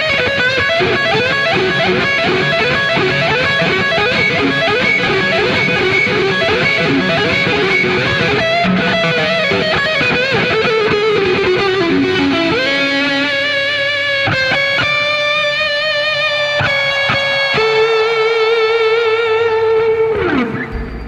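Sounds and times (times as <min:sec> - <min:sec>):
electric guitar solo: 0:00.0 - 0:21.0.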